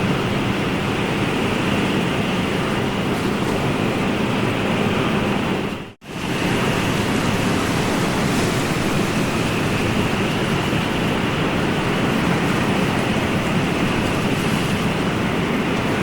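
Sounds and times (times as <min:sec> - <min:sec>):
ocean surf rushing: 0:00.0 - 0:16.0.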